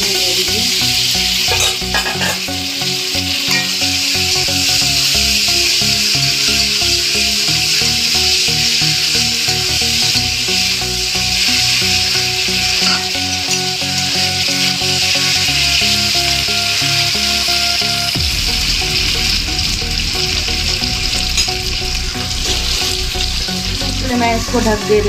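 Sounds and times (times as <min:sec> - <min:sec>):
background music: 0:00.0 - 0:25.0
chicken sizzling in hot oil: 0:00.0 - 0:25.0.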